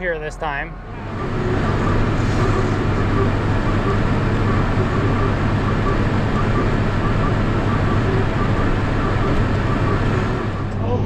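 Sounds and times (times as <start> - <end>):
tractor engine under load: 0.8 - 11.0
square baler working hay: 1.0 - 10.6.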